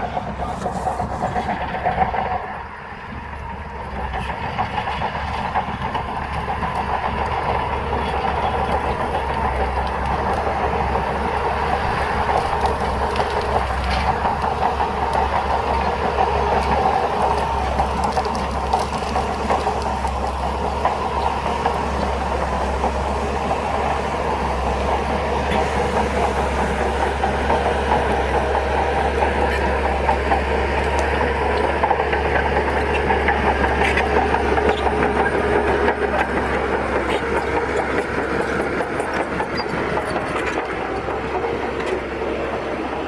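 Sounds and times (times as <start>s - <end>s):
bulldozer diesel engine under load: 0.0s - 43.0s
steel tracks clanking: 0.0s - 43.0s.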